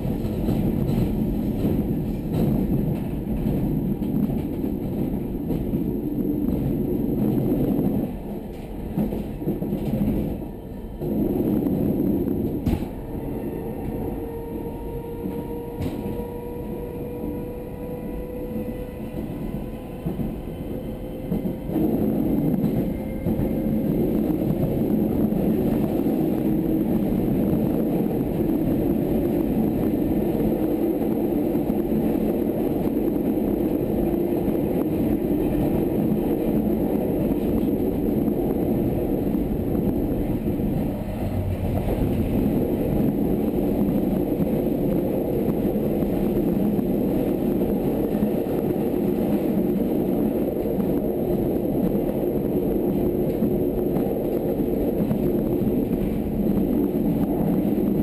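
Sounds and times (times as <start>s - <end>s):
train wheels on track: 0.0s - 58.0s.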